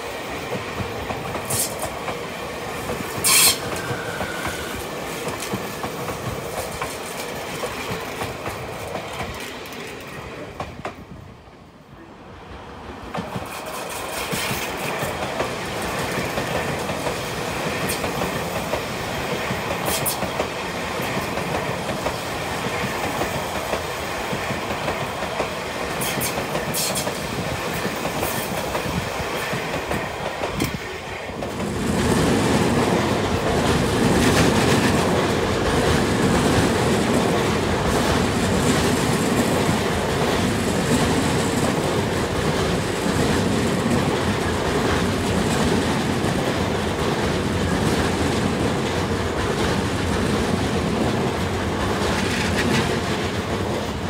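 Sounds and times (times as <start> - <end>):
electric train running past: 0.0 - 54.0.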